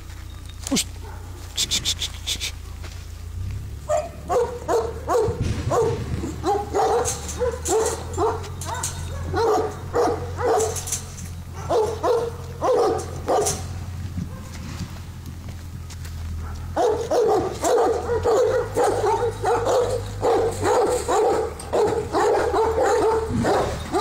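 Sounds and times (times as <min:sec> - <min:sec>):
dog barking: 0:01.0 - 0:02.0, 0:03.8 - 0:14.6, 0:16.3 - 0:24.0.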